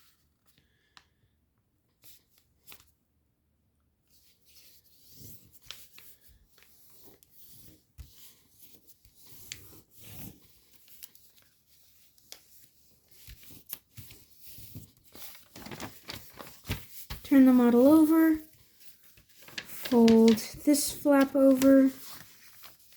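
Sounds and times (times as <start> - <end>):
paper rustling and crinkling: 4.1 - 22.9.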